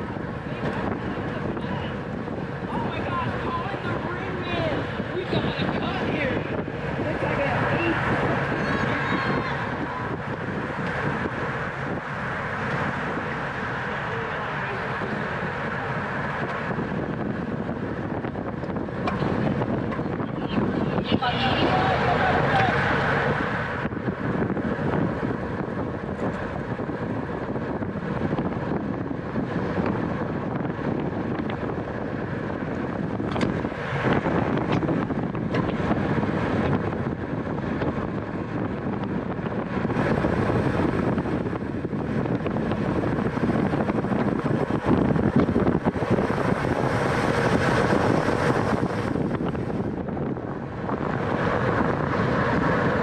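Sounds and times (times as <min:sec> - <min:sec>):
road and tyre noise: 0:00.0 - 0:53.0
wind over microphone: 0:00.0 - 0:53.0.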